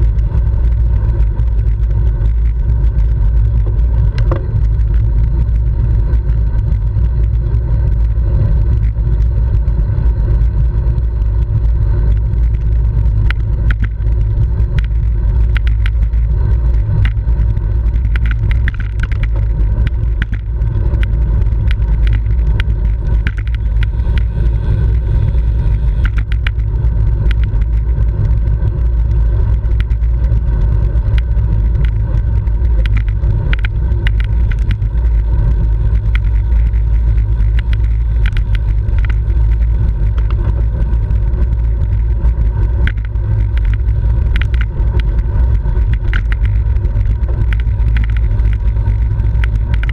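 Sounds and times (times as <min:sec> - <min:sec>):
short clicks and rattles: 0:00.0 - 0:49.9
wind buffeting microphone: 0:00.0 - 0:49.9.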